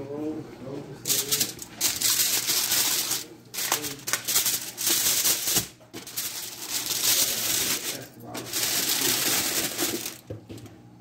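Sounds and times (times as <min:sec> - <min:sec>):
aluminium foil crinkling: 0:01.0 - 0:10.2.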